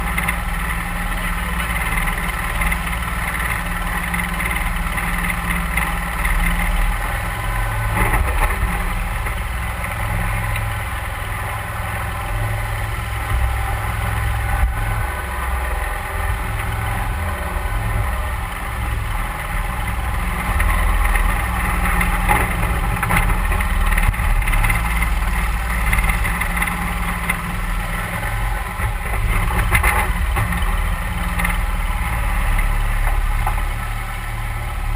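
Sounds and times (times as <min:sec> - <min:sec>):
boat motor running: 0:00.0 - 0:34.9.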